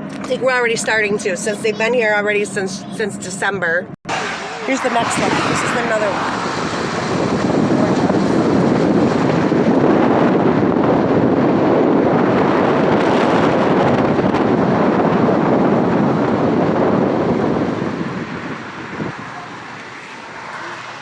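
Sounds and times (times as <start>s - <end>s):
car driving roar: 0.0s - 21.0s
wind buffeting microphone: 0.0s - 21.0s.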